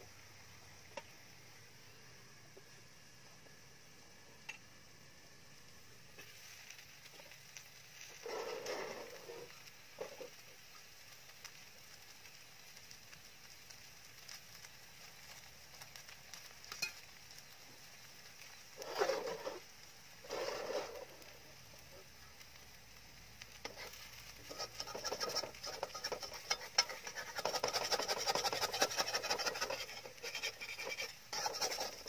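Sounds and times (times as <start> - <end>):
batter sizzling in a wok: 0.0 - 32.0.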